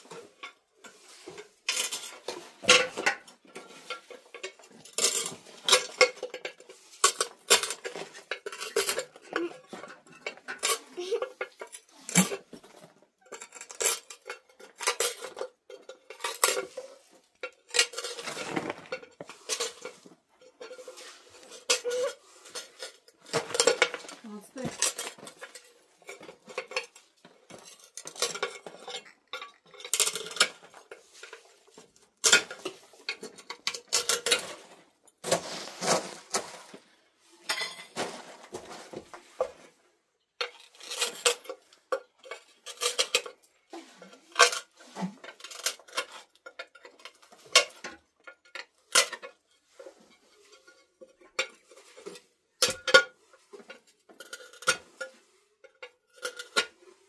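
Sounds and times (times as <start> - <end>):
trowel scraping and clinking on tiles: 0.0 - 39.6, 40.4 - 57.0.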